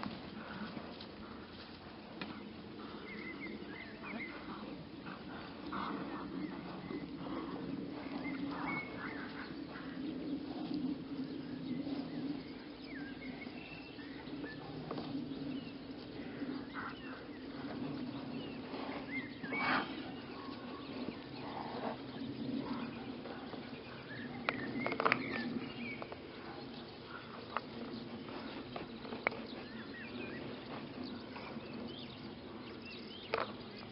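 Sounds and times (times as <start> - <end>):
small birds chirping: 0.0 - 33.9
steady low hum: 0.0 - 33.9.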